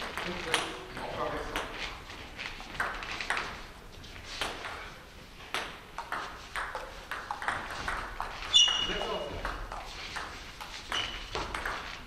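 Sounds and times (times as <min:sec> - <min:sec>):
table tennis balls clicking: 0:00.0 - 0:03.7, 0:04.3 - 0:12.0.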